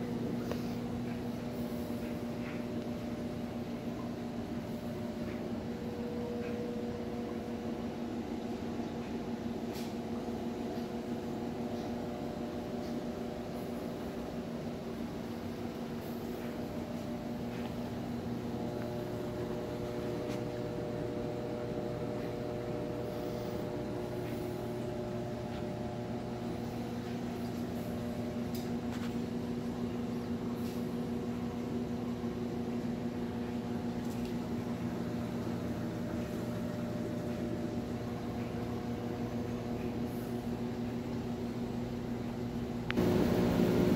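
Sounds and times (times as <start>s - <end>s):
aquarium pumps humming: 0.0s - 43.9s.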